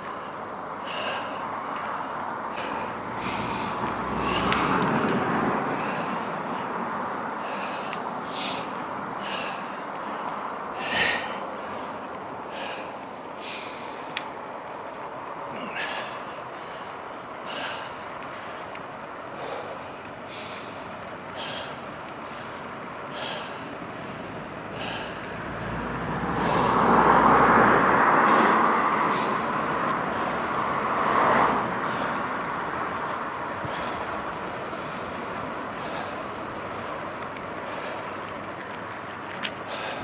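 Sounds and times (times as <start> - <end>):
motor vehicle passing: 0.0 - 40.0
road and wind noise: 0.0 - 40.0.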